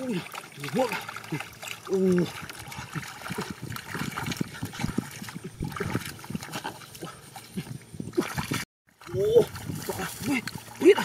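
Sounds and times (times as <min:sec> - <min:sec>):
hands splashing in muddy water: 0:00.0 - 0:11.0.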